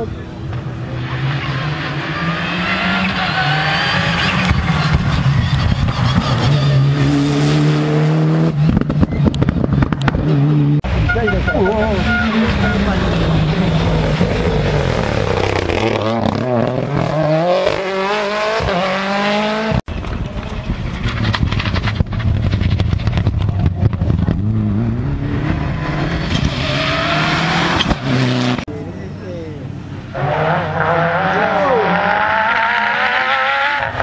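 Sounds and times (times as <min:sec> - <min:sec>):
rally car engine revving: 0:00.0 - 0:28.7, 0:29.8 - 0:34.0.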